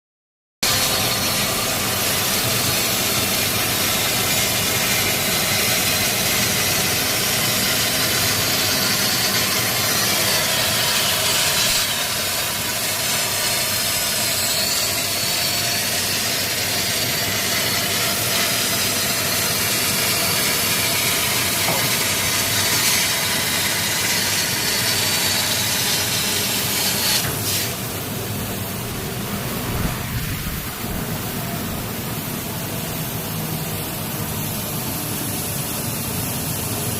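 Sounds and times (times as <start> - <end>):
machine noise: 0.6 - 36.9
laser cutter hiss: 0.7 - 36.9.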